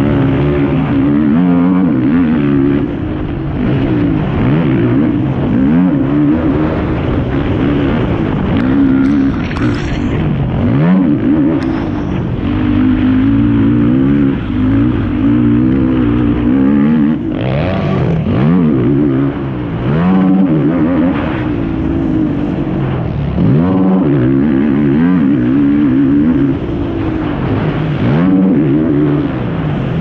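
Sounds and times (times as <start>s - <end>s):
quad engine revving: 0.0s - 30.0s.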